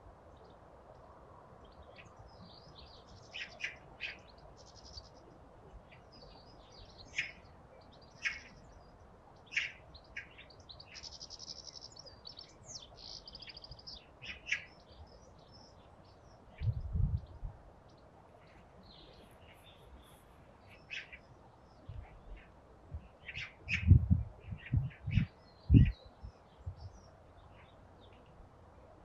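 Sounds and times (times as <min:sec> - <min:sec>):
faint steady background noise: 0:00.0 - 0:29.0
songbirds chirping and trilling: 0:00.0 - 0:29.0.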